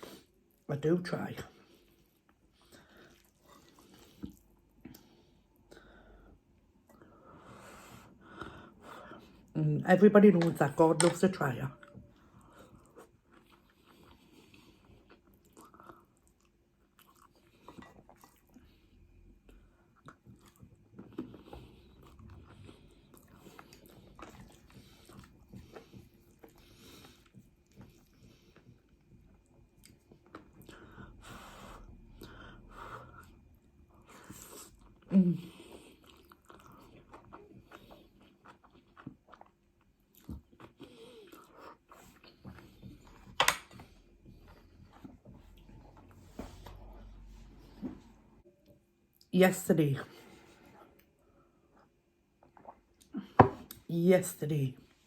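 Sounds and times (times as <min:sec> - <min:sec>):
person chewing noodles: 0:01.6 - 0:09.5, 0:11.8 - 0:48.2, 0:50.4 - 0:53.8.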